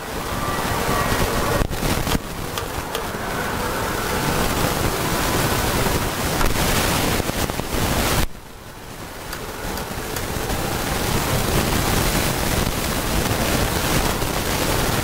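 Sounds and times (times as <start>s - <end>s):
roadside traffic: 0.0s - 15.0s
wind: 0.0s - 15.0s.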